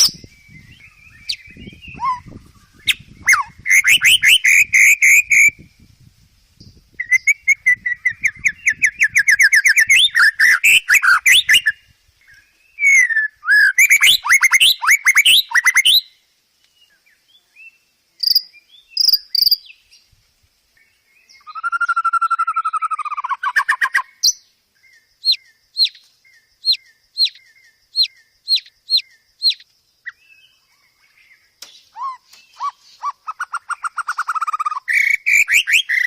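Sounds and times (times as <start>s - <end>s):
songbird trills and whistles: 0.0s - 5.9s, 6.6s - 20.1s, 20.8s - 36.0s.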